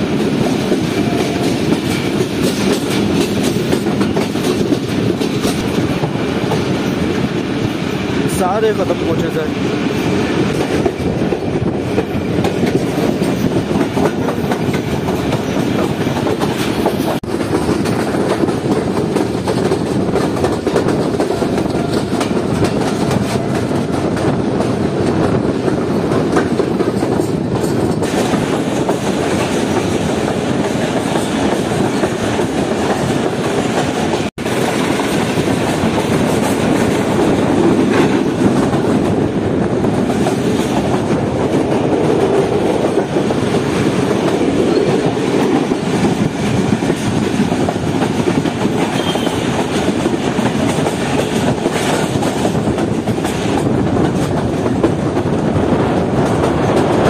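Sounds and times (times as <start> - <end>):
train rumble: 0.0 - 57.0
wheels clacking over rails: 0.0 - 57.0.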